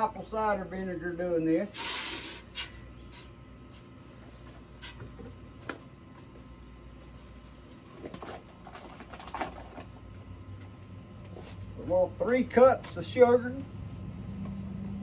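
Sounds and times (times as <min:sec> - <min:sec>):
gas burner hum: 0:00.0 - 0:08.8, 0:09.6 - 0:15.0.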